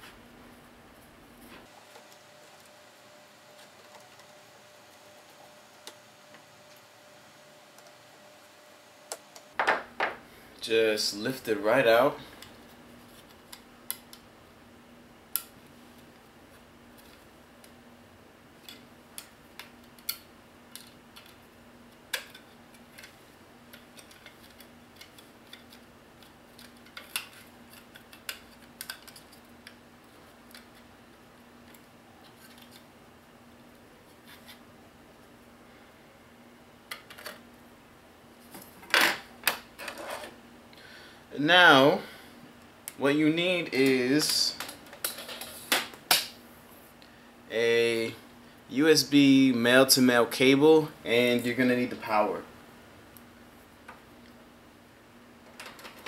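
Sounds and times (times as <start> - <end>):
faint hum: 0.0 - 56.0.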